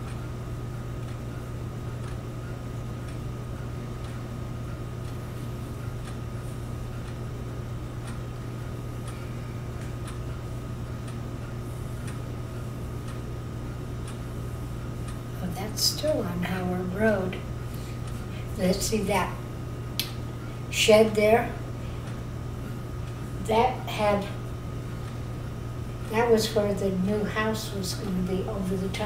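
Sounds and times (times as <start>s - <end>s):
projector motor hum: 0.0s - 29.0s
projector ticking: 0.0s - 29.0s.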